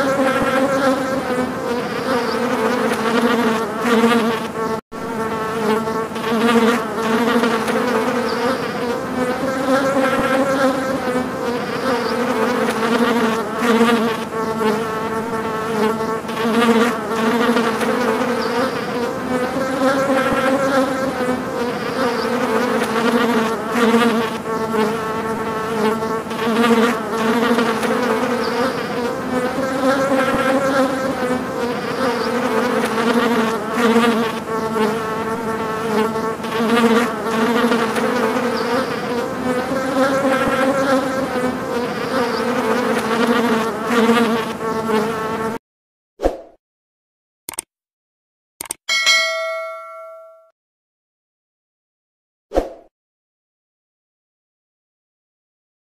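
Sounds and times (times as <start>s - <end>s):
flies buzzing: 0.0s - 45.6s.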